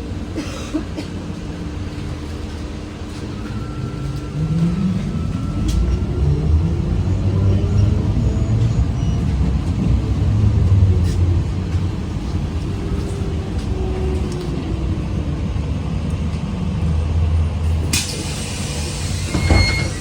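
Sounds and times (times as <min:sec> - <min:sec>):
trolleybus running gear rumble: 0:00.0 - 0:20.0.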